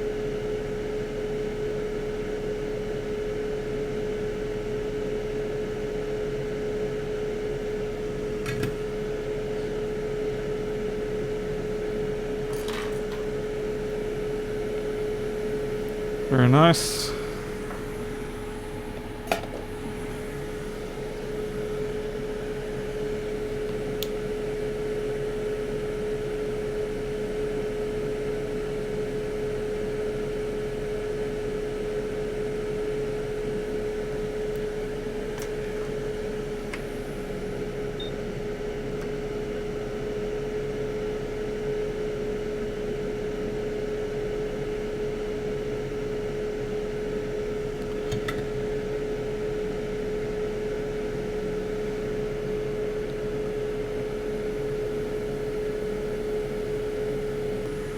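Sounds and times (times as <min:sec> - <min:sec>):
hot-air station humming and hissing: 0:00.0 - 0:57.9.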